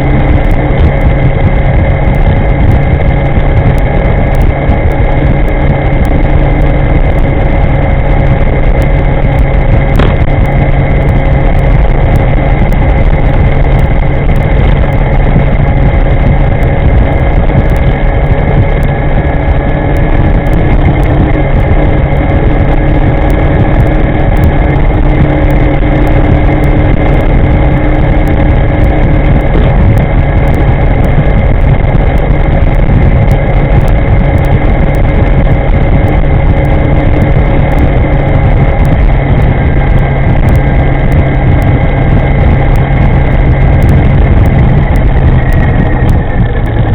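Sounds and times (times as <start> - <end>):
faint steady whine: 0.0 - 46.9
wind noise over microphone: 0.0 - 46.9.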